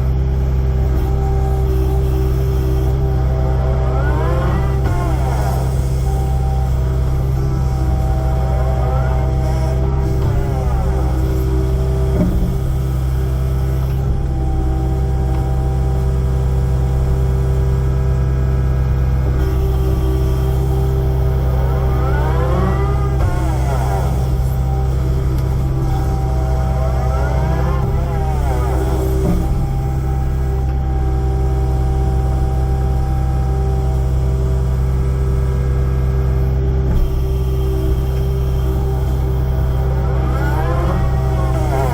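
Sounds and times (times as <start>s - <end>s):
excavator diesel engine running: 0.0s - 41.9s
steady whine: 0.0s - 41.9s.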